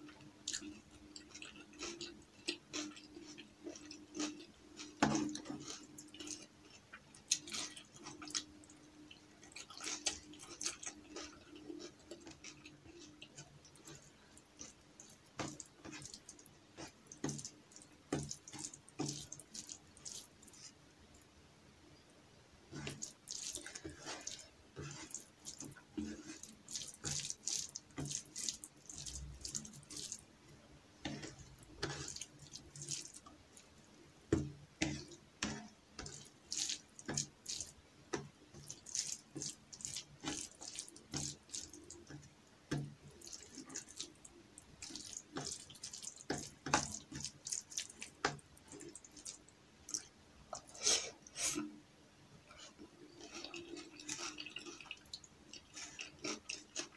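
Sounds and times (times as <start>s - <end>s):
fingers squelching food: 0.4s - 20.8s, 22.7s - 30.3s, 31.0s - 33.8s, 34.8s - 51.6s.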